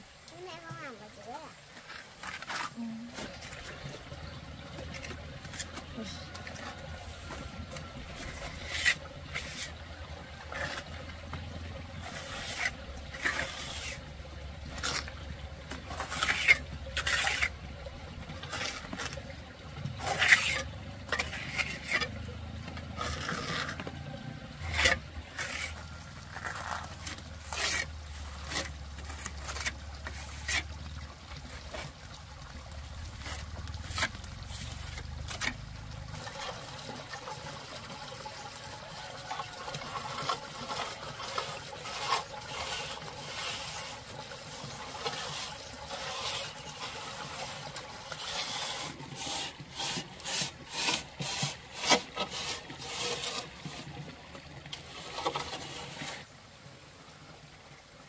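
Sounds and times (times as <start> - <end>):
float scraping wet cement: 0.3 - 56.4.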